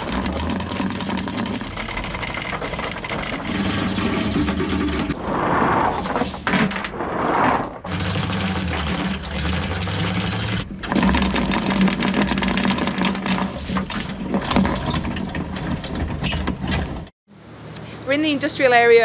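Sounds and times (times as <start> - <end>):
windlass motor hum: 0.0 - 6.1, 7.8 - 17.1.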